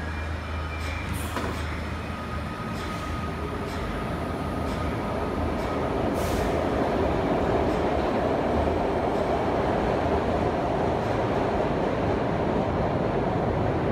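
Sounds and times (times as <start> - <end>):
train motors and wheels rumbling: 0.0 - 13.9.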